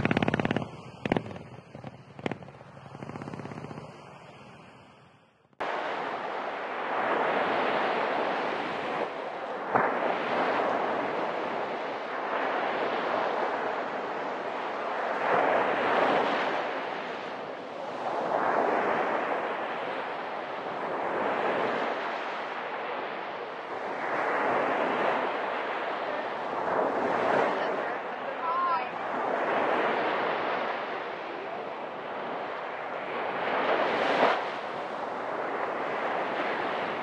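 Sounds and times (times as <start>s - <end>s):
sea surf breaking on shore: 0.0s - 4.3s, 5.6s - 37.0s.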